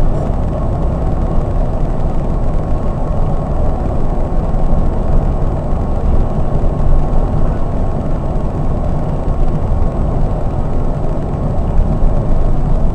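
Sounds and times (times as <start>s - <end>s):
coach engine and road noise: 0.0s - 12.9s.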